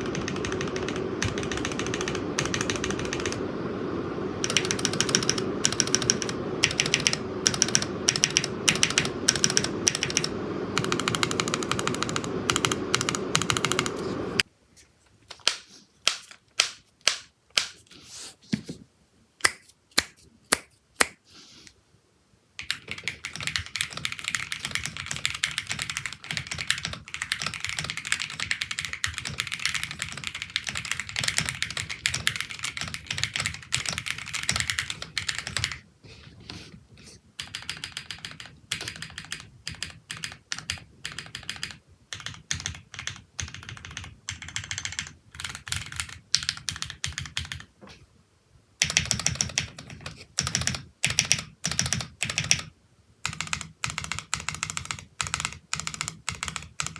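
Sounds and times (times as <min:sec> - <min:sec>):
mechanical keyboard typing: 0:00.0 - 0:03.5, 0:04.4 - 0:14.5, 0:15.3 - 0:17.8, 0:22.6 - 0:35.8, 0:37.4 - 0:47.7, 0:48.8 - 0:56.9.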